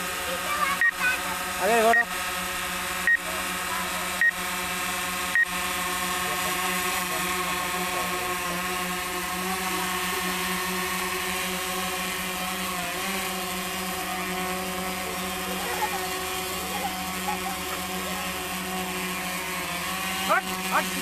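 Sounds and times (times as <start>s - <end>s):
mechanical drone with hiss: 0.0s - 21.0s.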